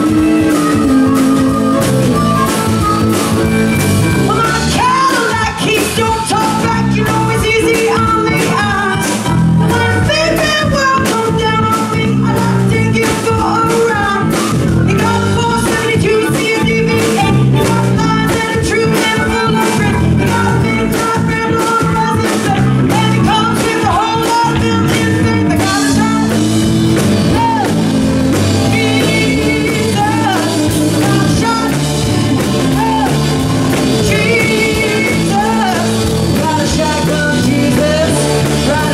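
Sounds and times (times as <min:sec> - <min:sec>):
drum beat: 0:00.0 - 0:38.9
electric guitar: 0:00.0 - 0:38.9
woman singing: 0:00.0 - 0:38.9.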